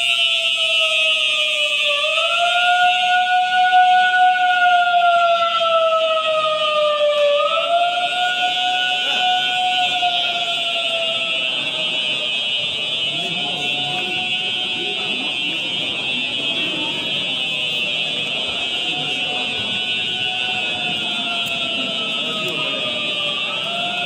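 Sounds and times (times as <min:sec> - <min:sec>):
fire alarm high-pitched tone: 0:00.0 - 0:24.0.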